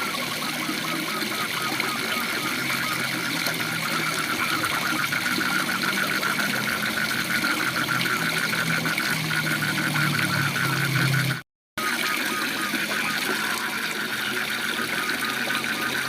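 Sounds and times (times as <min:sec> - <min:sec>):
frogs trilling: 0:00.0 - 0:16.0
low droning croak: 0:00.0 - 0:16.0.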